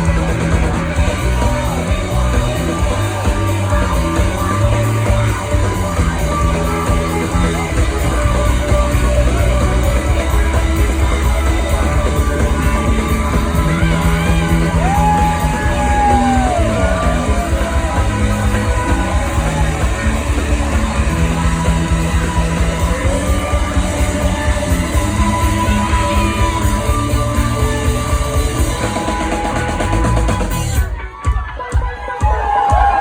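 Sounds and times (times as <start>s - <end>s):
live funk rock band: 0.0s - 33.0s.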